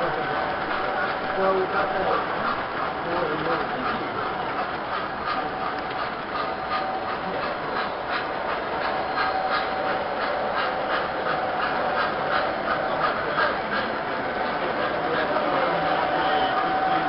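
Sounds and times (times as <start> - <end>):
model train rhythmic clicking: 0.0 - 17.0.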